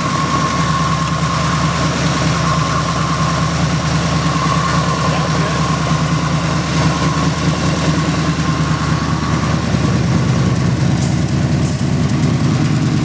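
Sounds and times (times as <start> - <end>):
thin high whine: 0.0 - 11.0
car engine idling: 0.0 - 13.0.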